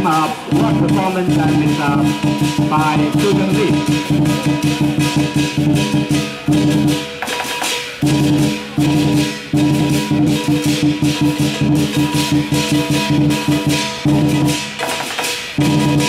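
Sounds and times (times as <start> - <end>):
cymbals clashing: 0.0 - 16.0
large drum beaten fast: 0.0 - 16.0.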